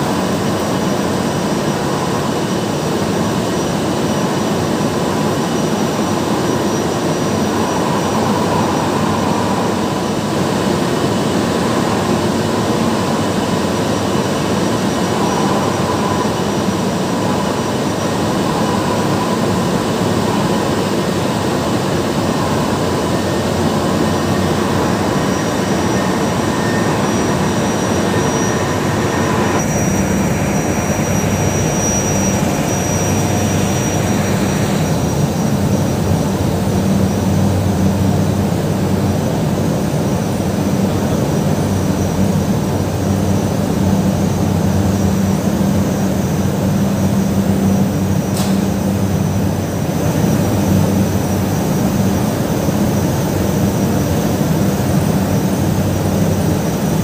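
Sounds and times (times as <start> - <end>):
factory machinery running: 0.0 - 57.0
faint high whine: 0.0 - 57.0.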